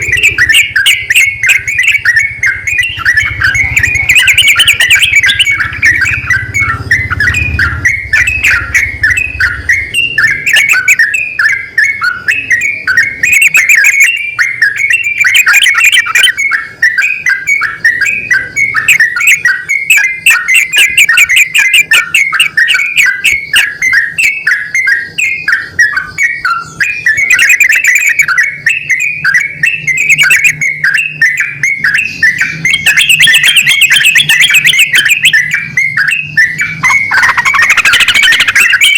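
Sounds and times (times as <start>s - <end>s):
birds chattering calls: 0.0s - 38.9s.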